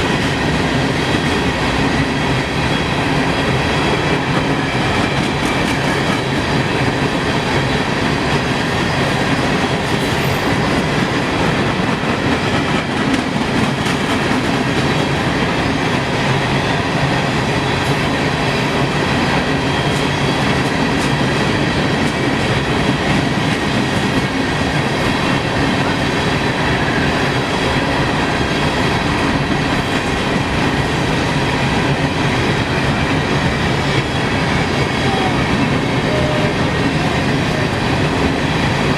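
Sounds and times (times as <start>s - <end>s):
train wheels on track: 0.0s - 38.9s.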